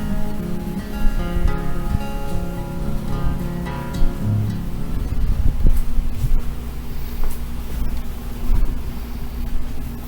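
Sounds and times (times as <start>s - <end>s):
acoustic guitar music: 0.0s - 10.0s
steady low rumble: 0.0s - 10.0s.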